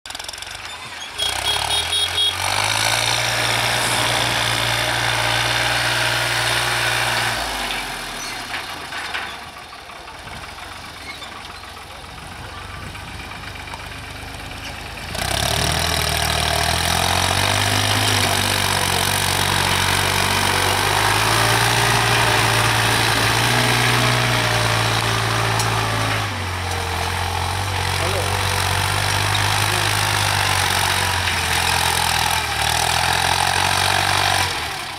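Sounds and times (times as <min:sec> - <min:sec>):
tractor diesel engine droning: 0:00.1 - 0:34.9.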